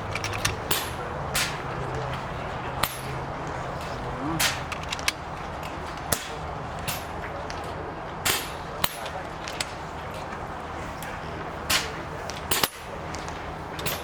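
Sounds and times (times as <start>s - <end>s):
air rifle shots: 0.0s - 9.9s, 11.0s - 14.0s.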